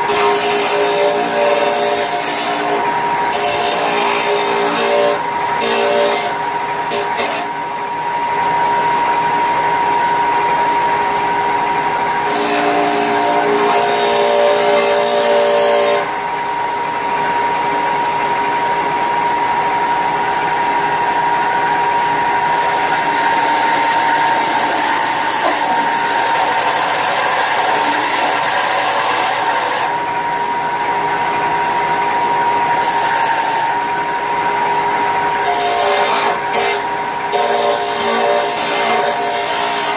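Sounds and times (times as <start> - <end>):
power tool whining: 0.0 - 39.9.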